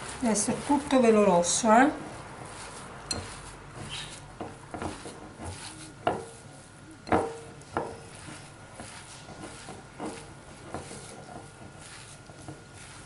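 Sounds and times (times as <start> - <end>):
hands kneading coconut: 0.0 - 13.0.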